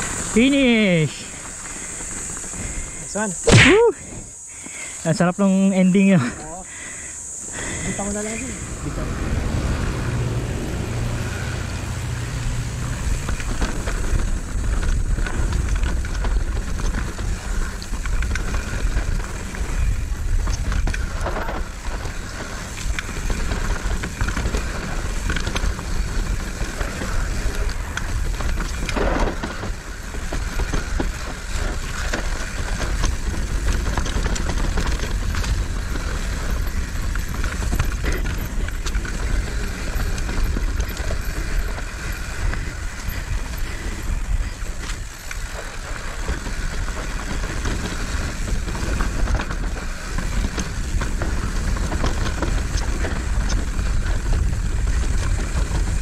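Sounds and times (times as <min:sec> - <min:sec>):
bike rattling over rough ground: 0:00.0 - 0:56.0
bike tyre noise: 0:00.0 - 0:56.0
wind rumble on microphone: 0:08.4 - 0:56.0.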